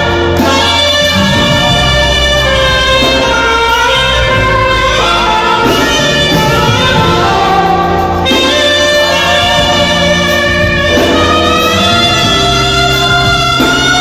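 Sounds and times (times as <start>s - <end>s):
bass line: 0.0s - 14.0s
keyboard accompaniment: 0.0s - 14.0s
saxophone slow melody: 0.0s - 14.0s.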